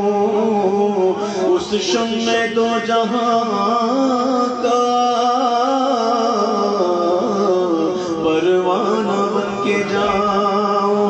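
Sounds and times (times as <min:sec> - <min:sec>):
man singing into microphone: 0:00.0 - 0:11.0.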